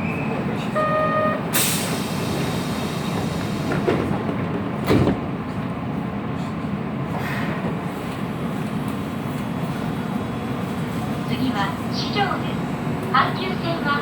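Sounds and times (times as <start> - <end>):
train rumbling through tunnel: 0.0 - 14.0.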